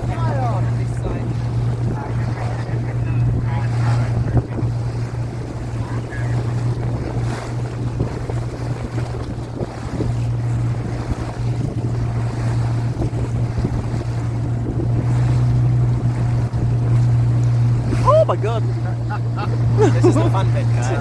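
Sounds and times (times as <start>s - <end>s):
boat engine humming: 0.0s - 21.0s
water noise: 0.0s - 21.0s
wind buffeting microphone: 0.0s - 21.0s.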